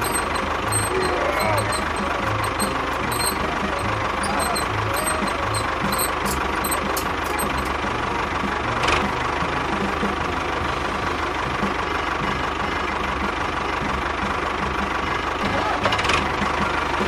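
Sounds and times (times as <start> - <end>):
small tractor engine chugging: 0.0 - 17.0.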